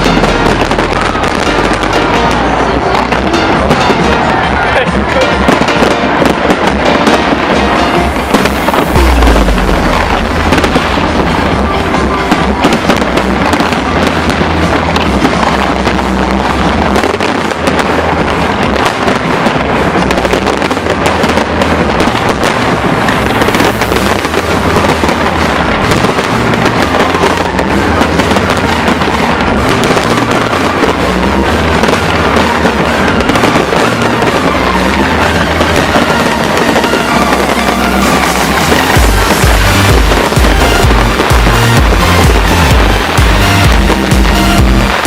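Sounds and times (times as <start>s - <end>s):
deep fireworks booms: 0.0s - 45.0s
fireworks crackling and popping: 0.0s - 45.0s.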